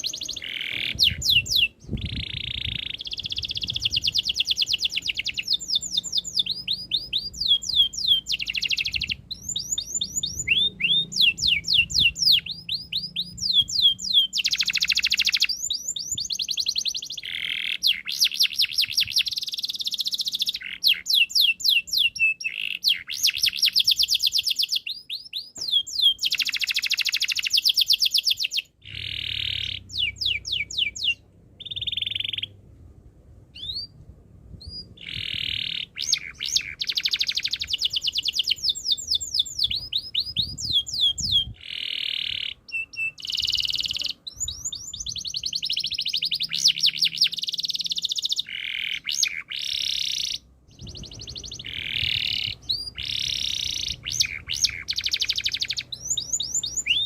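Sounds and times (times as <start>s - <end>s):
canary singing trills: 0.0s - 32.6s, 33.6s - 34.0s, 34.6s - 57.0s.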